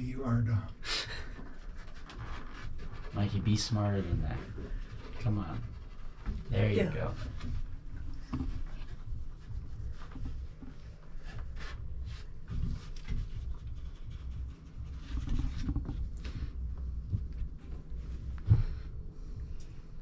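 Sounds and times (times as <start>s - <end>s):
cat rustling and scratching: 1.2s - 19.7s.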